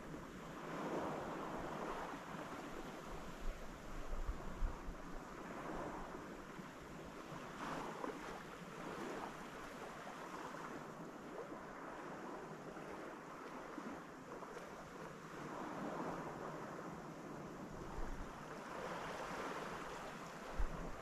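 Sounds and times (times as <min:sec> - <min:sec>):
small waves washing onto beach: 0:00.0 - 0:21.0.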